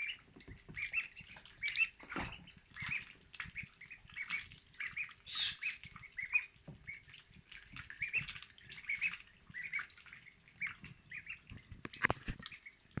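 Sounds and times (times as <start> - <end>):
duckling peeping: 0.0 - 12.9.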